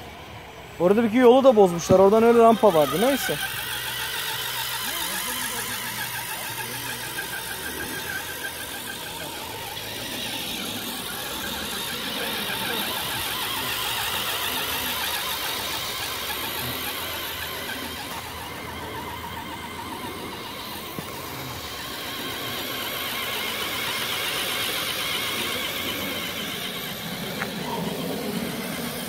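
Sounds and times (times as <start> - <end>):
toy truck drive whining: 0.0 - 29.0.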